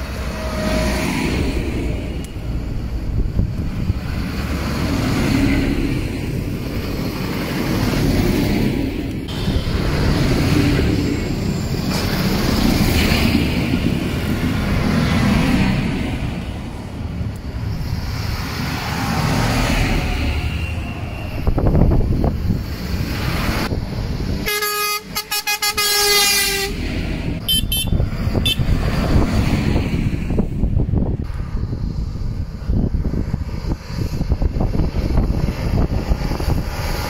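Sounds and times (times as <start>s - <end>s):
tractors driving past: 0.0s - 37.0s.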